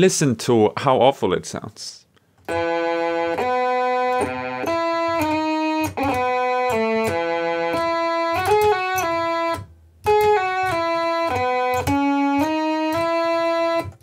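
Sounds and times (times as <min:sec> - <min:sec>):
toy organ playing chords: 0:02.4 - 0:14.0.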